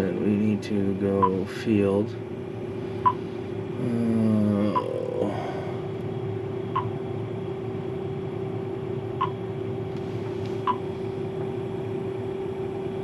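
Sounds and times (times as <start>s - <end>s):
combine engine drone in cab: 0.0s - 13.0s.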